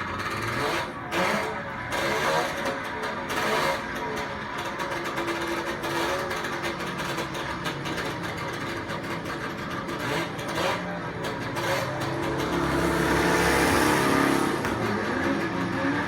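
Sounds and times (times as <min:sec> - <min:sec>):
cars passing: 0:00.0 - 0:16.0
sports car engines racing: 0:00.0 - 0:16.0.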